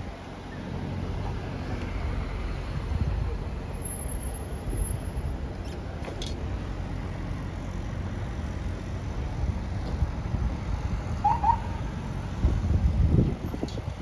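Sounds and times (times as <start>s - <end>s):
city street traffic rumble: 0.0s - 14.0s
vehicle engines idling: 0.0s - 14.0s.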